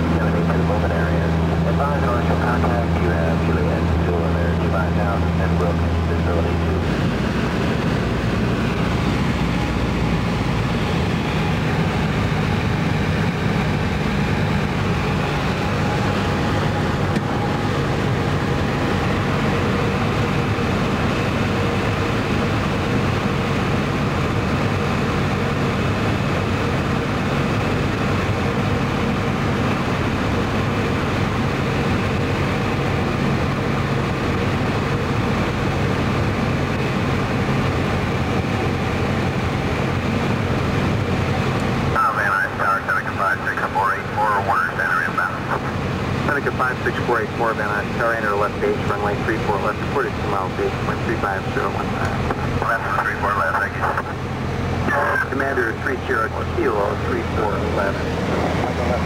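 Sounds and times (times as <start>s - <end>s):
aircraft piston engine drone: 0.0s - 59.0s.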